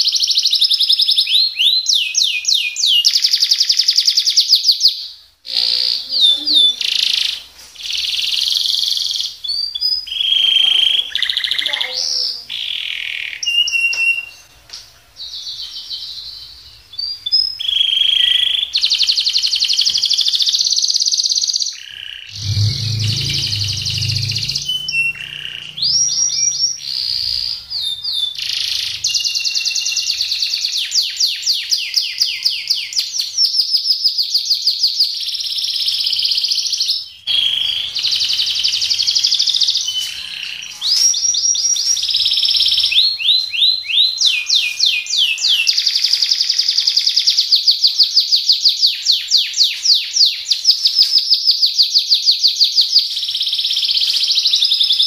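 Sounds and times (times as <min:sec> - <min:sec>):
canary singing: 0:00.0 - 0:33.6, 0:34.2 - 0:55.0.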